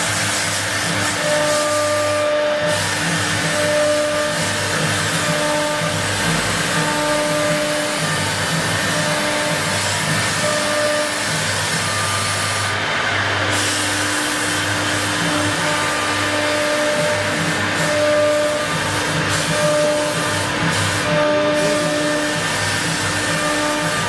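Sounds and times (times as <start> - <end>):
wood router whirring: 0.0 - 24.0.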